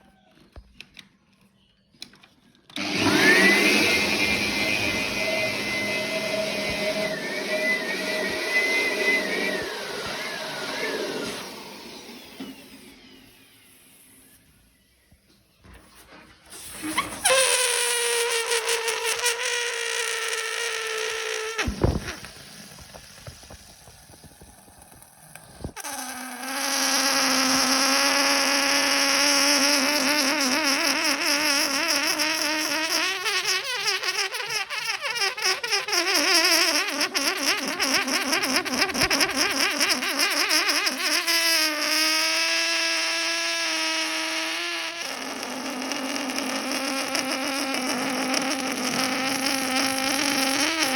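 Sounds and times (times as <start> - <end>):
balloon neck squealing: 2.8 - 14.6, 15.8 - 50.9.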